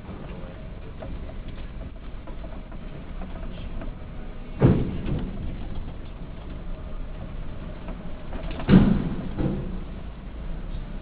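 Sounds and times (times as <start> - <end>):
bus engine rumbling: 0.0 - 11.0
heavy clunks on steel ramp: 0.0 - 11.0.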